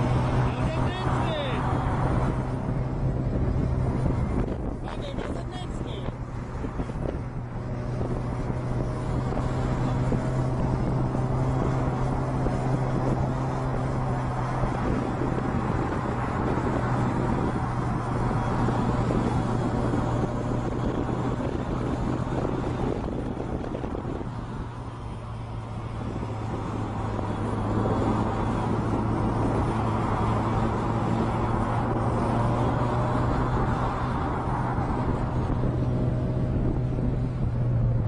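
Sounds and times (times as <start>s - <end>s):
road noise: 0.0s - 38.0s
vehicle engine hum: 0.0s - 38.0s.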